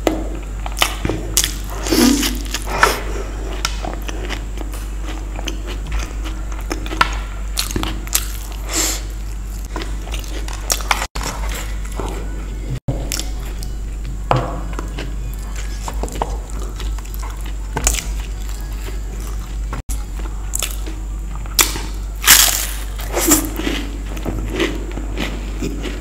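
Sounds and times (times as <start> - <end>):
steady low hum: 0.0 - 26.0
chewing with crunches: 0.6 - 12.3, 13.0 - 26.0.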